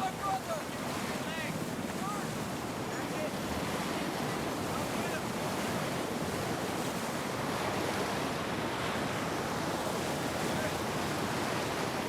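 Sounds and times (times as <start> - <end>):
sea waves churning: 0.0 - 12.0.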